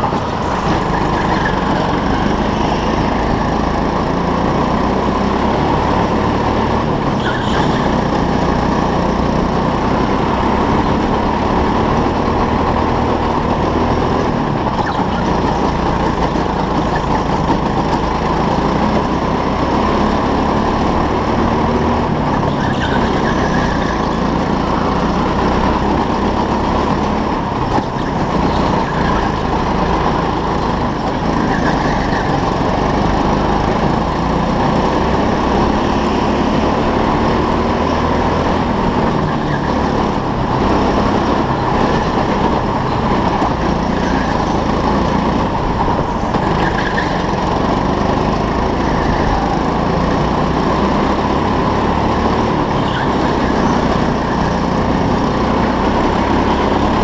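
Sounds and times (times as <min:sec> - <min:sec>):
go-kart engine and road noise: 0:00.0 - 0:57.0.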